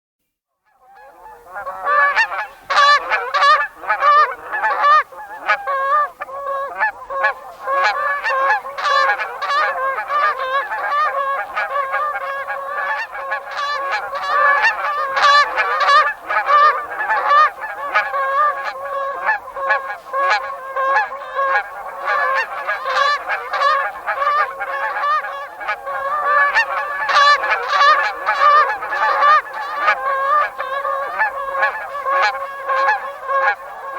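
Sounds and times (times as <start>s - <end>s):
geese honking: 0.7s - 33.9s.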